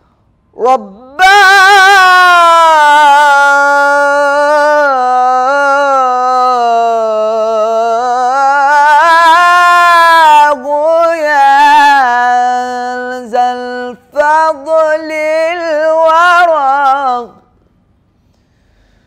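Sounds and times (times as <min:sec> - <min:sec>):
young man chanting unaccompanied: 0:00.6 - 0:17.5.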